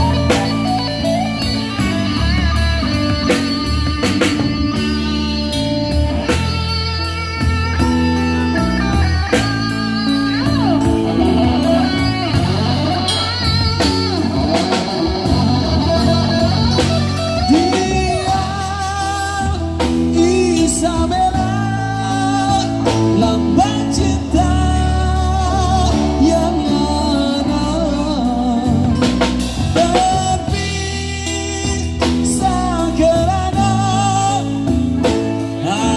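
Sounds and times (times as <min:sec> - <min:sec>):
drum kit with cymbal strokes: 0:00.0 - 0:35.9
electric guitars: 0:00.0 - 0:35.9
man singing with vibrato: 0:00.0 - 0:35.9.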